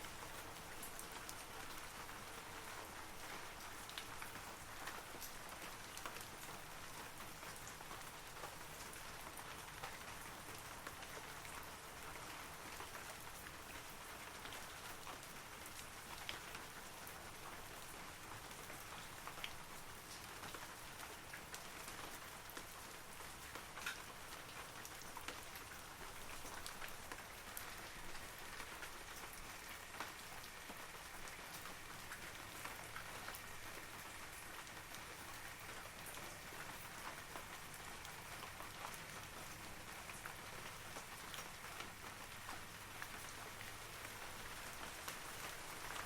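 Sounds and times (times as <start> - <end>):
rain falling on trees: 0.0 - 46.0.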